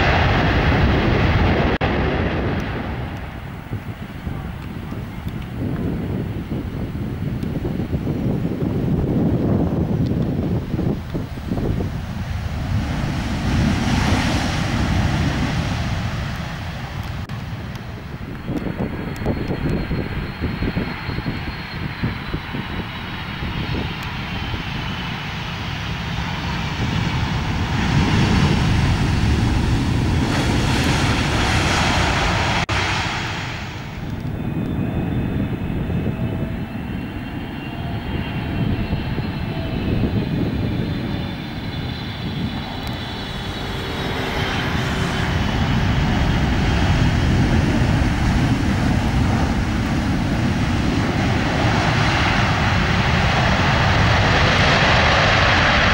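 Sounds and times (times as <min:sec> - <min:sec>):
jet engines rumbling: 0:00.0 - 0:55.9
jet engines whining: 0:00.0 - 0:55.9.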